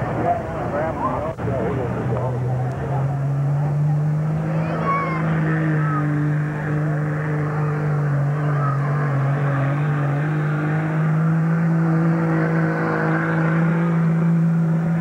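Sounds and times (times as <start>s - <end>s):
truck engine running at high revs: 0.0s - 15.0s.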